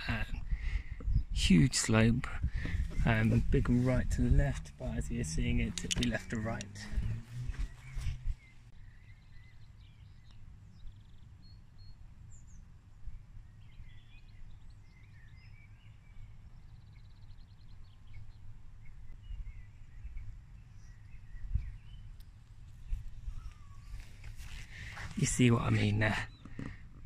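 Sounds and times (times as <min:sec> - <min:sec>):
wind rumble on microphone: 0:00.0 - 0:11.2, 0:12.3 - 0:25.2
birds chirping and trilling: 0:00.0 - 0:27.0.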